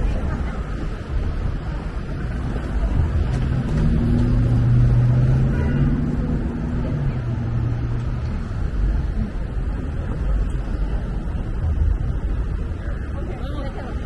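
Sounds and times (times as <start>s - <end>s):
street traffic rumble: 0.0s - 14.0s
vehicle engine hum: 0.0s - 14.0s.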